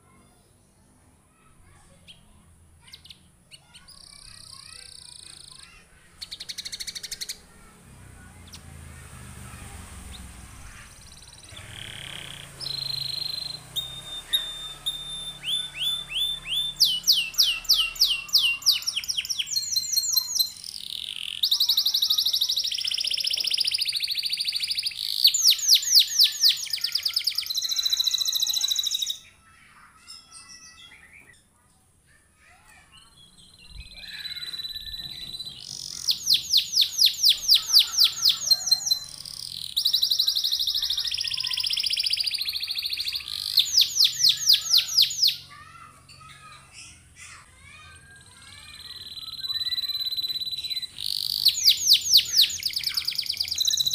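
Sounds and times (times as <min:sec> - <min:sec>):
canary singing trills: 0:02.0 - 0:07.7, 0:10.1 - 0:31.6, 0:32.7 - 0:53.9.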